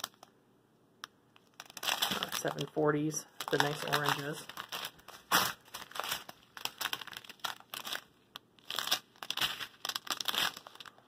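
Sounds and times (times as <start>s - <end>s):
plastic bags crinkling: 1.4s - 11.0s.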